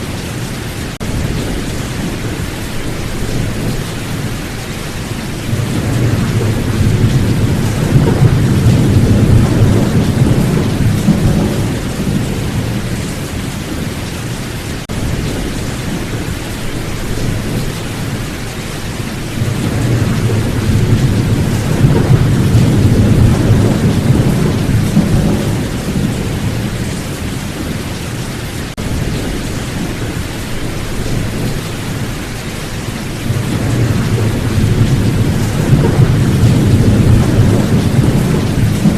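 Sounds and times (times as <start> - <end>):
rolling thunder rumbles: 0.0 - 38.9
steady heavy rain: 0.0 - 38.9.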